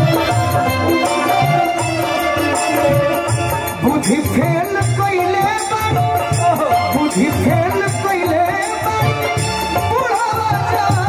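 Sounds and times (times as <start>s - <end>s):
folk dance music: 0.0s - 11.0s
steady drum beat: 0.0s - 11.0s.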